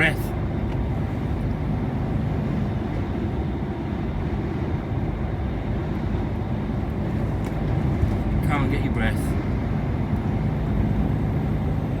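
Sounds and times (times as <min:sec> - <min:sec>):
lorry engine and tyre rumble: 0:00.0 - 0:12.0.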